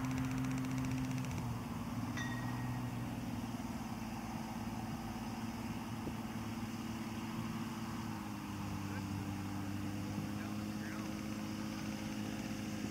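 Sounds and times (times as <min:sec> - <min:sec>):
light aircraft engine running: 0:00.0 - 0:12.9.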